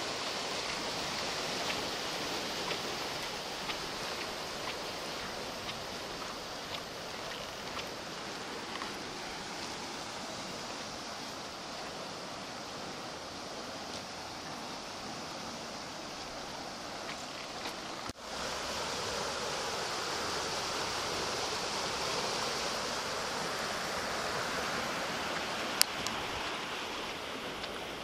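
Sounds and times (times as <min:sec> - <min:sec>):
floodwater rushing through channel: 0:00.0 - 0:28.0.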